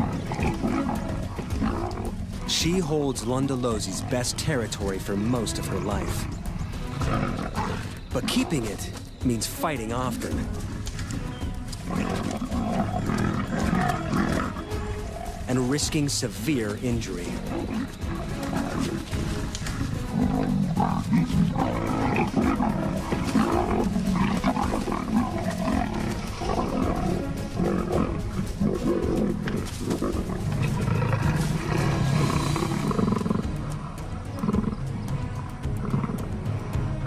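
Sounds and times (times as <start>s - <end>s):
background music: 0.0s - 37.0s
leopards growling and snarling: 0.0s - 37.0s.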